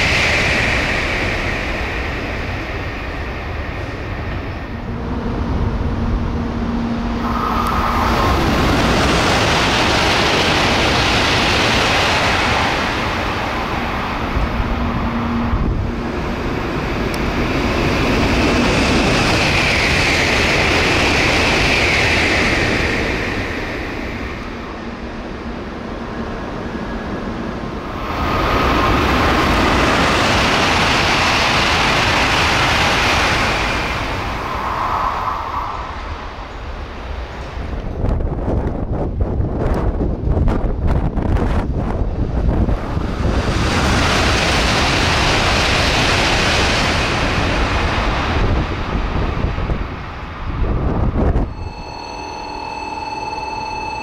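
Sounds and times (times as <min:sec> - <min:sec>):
high-speed trains passing: 0:00.0 - 0:54.0.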